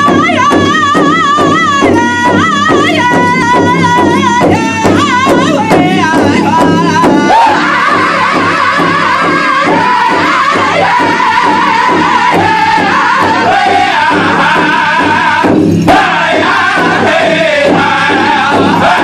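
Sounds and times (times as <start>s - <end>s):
group singing: 0.0s - 19.0s
high wavering lead voice singing: 0.0s - 19.0s
steady drumbeat: 0.0s - 19.0s.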